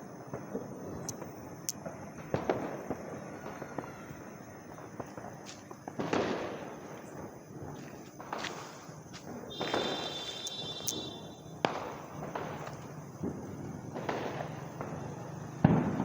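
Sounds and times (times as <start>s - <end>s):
firecracker crackling: 0.0s - 16.0s
firecrackers popping and banging: 0.2s - 16.0s.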